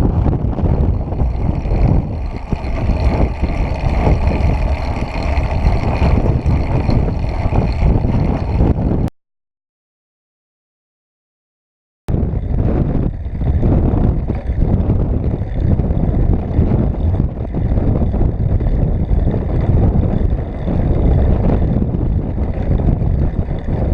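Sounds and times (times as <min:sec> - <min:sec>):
gusty wind buffeting microphone: 0:00.0 - 0:09.1, 0:12.1 - 0:23.9.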